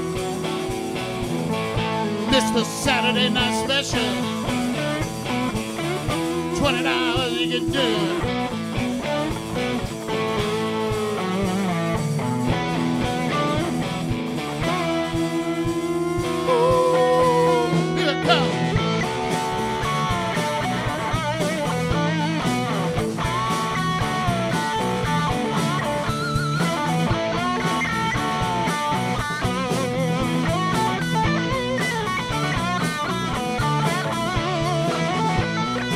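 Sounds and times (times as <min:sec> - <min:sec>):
guitar bent notes with vibrato: 0:00.0 - 0:35.9
live rock band playing: 0:00.0 - 0:35.9.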